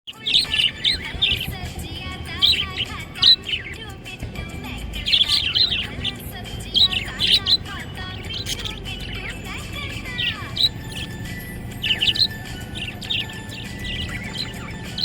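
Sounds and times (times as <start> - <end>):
budgerigar chirping: 0.1 - 15.0.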